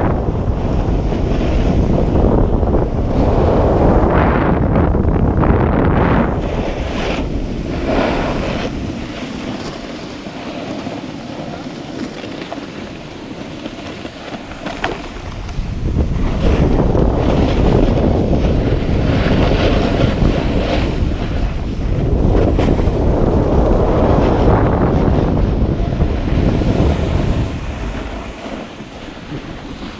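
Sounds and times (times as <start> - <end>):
snowboard scraping over snow: 0.0 - 29.9
wind buffeting microphone: 0.0 - 29.9.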